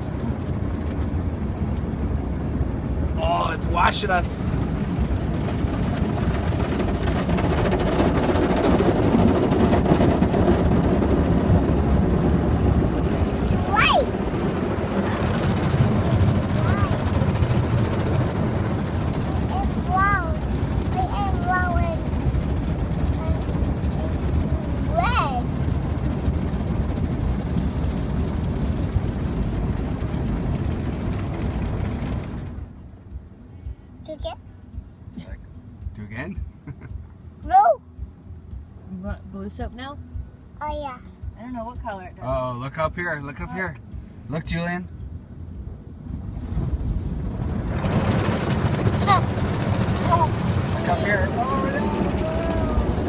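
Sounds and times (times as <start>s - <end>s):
car wash water and machinery: 0.0s - 53.0s
low rumble: 0.0s - 53.0s.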